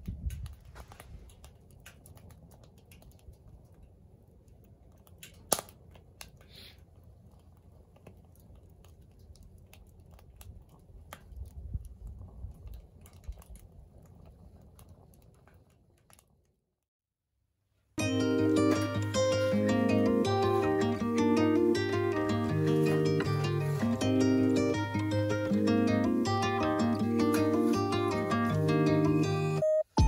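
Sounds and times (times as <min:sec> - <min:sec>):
firewood crackling and popping: 0:00.0 - 0:16.8, 0:18.0 - 0:29.6.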